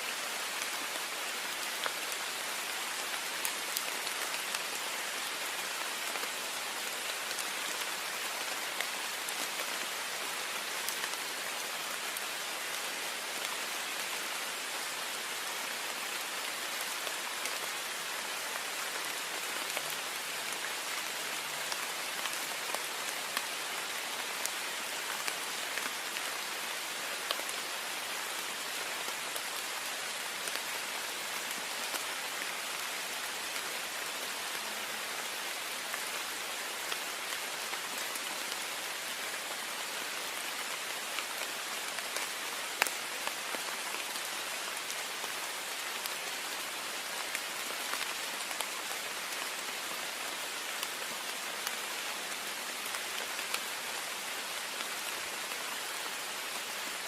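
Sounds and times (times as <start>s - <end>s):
heavy rain on a window: 0.1s - 57.0s.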